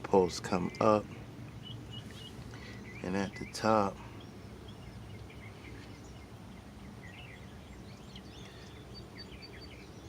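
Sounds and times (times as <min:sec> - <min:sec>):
steady low background noise: 0:00.0 - 0:10.0
faint bird chirps: 0:00.4 - 0:10.0.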